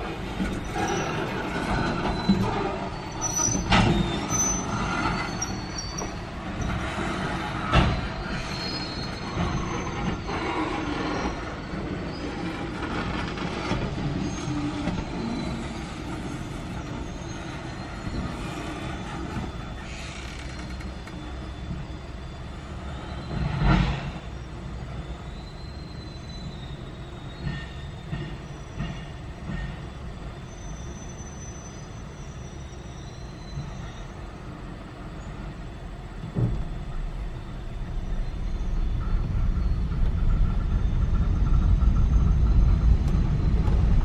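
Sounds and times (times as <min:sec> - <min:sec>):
steel wheels squealing: 0:00.0 - 0:34.4, 0:36.7 - 0:44.0
freight train rumble: 0:00.0 - 0:44.0.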